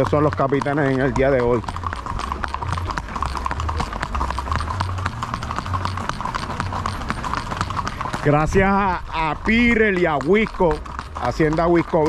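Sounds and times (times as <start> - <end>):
horses' hooves clip-clopping: 0.0 - 12.0.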